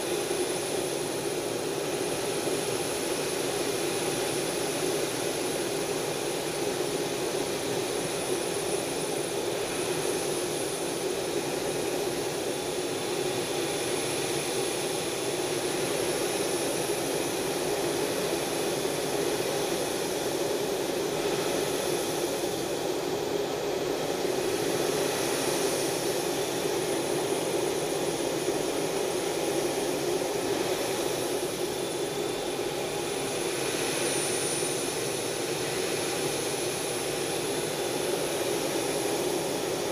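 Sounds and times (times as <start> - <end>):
jet aircraft cabin drone: 0.0 - 39.9.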